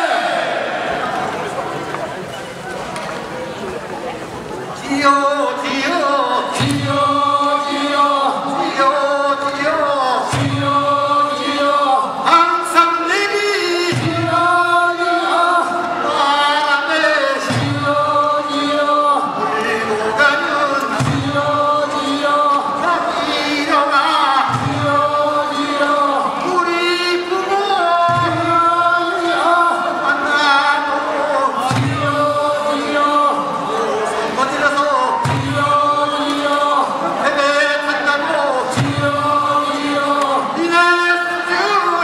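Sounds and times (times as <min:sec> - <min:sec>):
men singing in chorus: 0:04.8 - 0:42.0.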